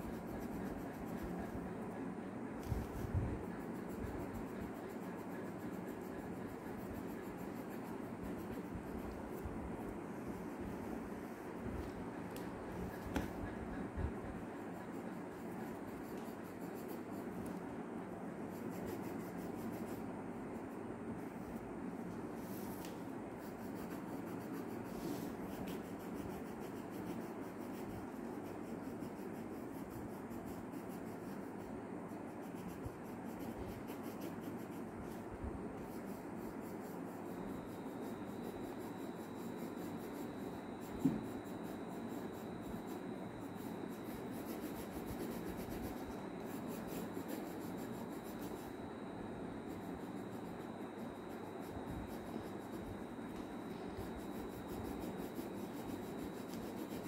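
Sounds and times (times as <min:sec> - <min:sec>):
pencil shading on paper: 0:00.0 - 0:57.0.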